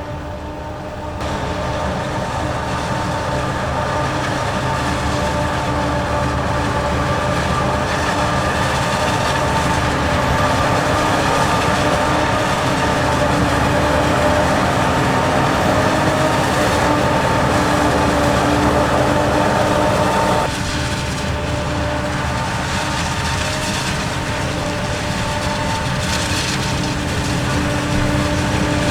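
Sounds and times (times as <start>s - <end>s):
diesel machinery drone: 0.0s - 28.9s
steady whine: 0.0s - 28.9s.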